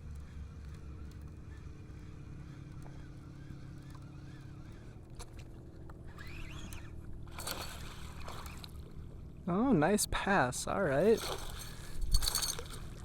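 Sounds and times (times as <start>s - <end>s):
motorboat engines droning: 0.0s - 13.0s.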